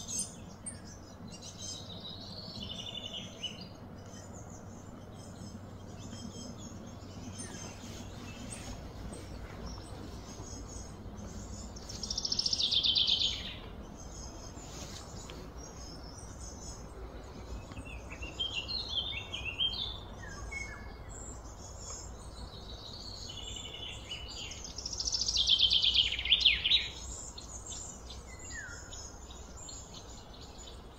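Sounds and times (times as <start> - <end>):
bird chirps: 0.0 - 30.9
low background hum: 0.0 - 30.9
songbirds singing: 0.0 - 30.9.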